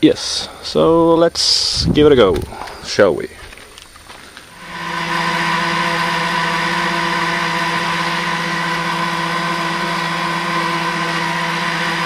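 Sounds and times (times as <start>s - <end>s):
gas turbine engine whine: 0.0s - 12.0s.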